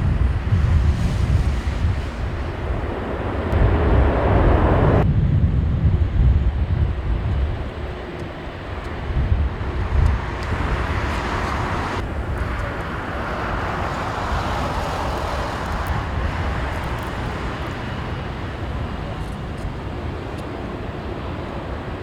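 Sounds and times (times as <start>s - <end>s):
jet airliner passing overhead: 0.0s - 22.0s
wind thumping on microphone: 0.0s - 22.0s.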